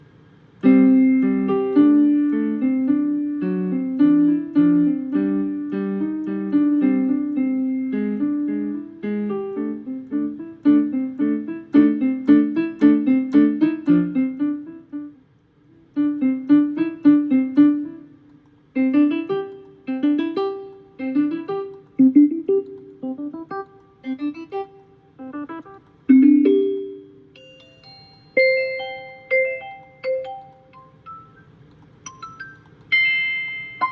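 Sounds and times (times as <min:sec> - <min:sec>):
piano chords and running notes: 0:00.0 - 0:33.9.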